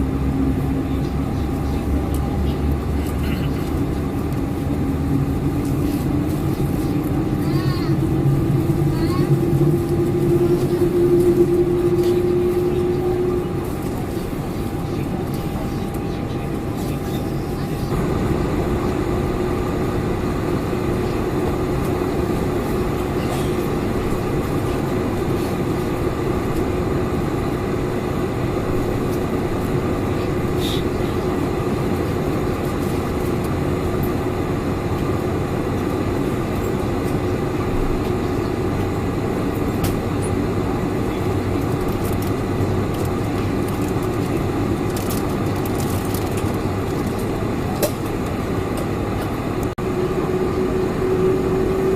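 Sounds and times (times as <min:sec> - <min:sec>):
airplane cabin engine drone: 0:00.0 - 0:51.9.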